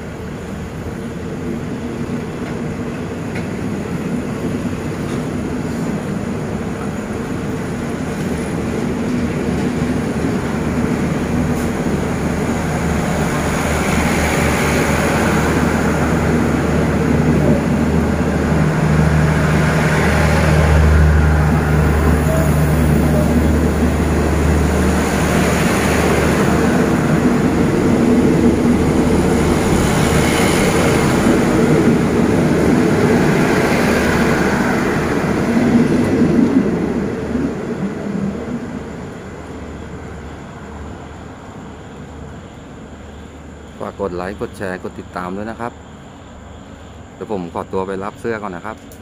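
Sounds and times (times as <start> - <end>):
train wheels rumbling on rails: 0.0 - 43.8.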